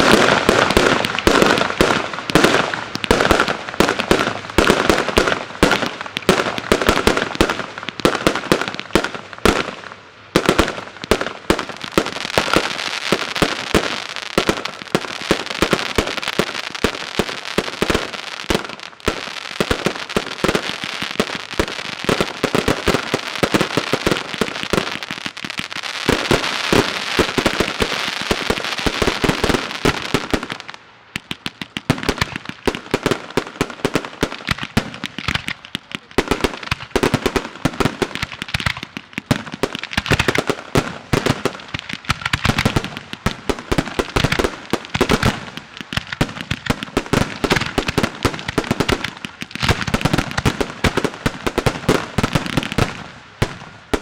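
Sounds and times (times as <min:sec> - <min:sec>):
fireworks crackle: 0:00.0 - 0:54.0.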